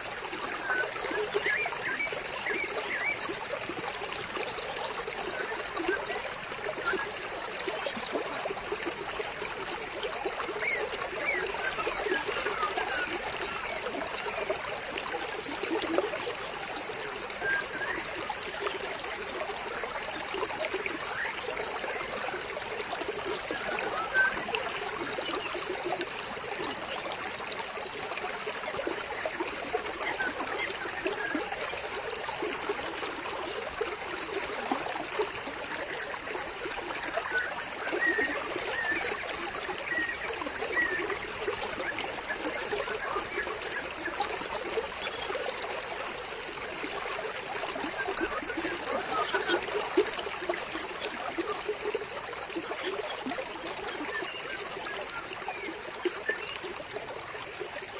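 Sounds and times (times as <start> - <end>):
stream trickling and babbling: 0.0 - 57.9.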